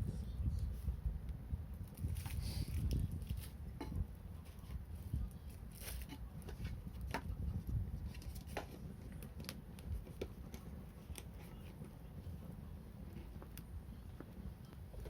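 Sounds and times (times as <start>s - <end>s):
low fire rumble: 0.0s - 15.0s
bonfire crackling and popping: 1.2s - 15.0s.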